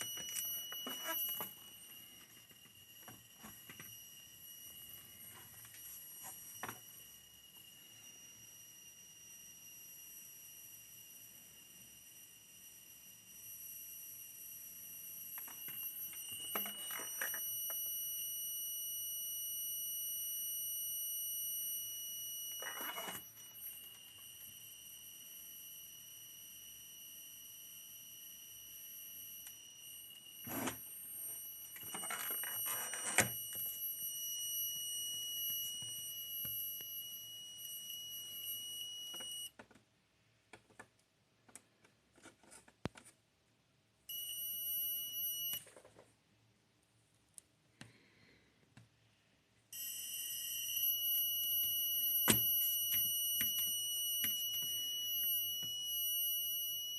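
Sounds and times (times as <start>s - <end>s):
high-pitched monitor whistle: 0.0s - 39.6s, 44.1s - 45.6s, 49.8s - 56.9s.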